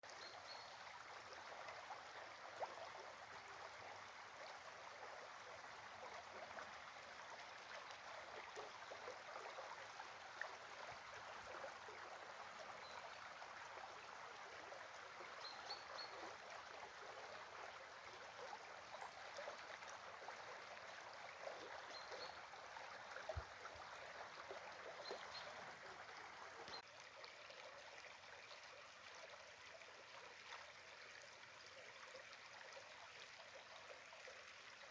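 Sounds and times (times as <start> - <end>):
small stream flowing: 0.0 - 34.9.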